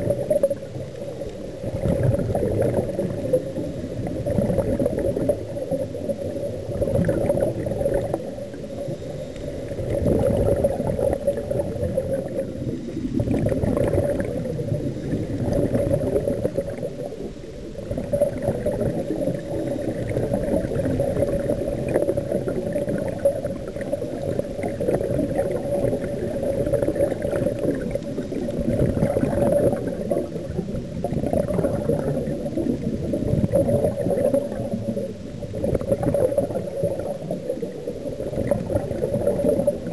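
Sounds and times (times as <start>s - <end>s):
underwater gurgling water: 0.0s - 39.9s.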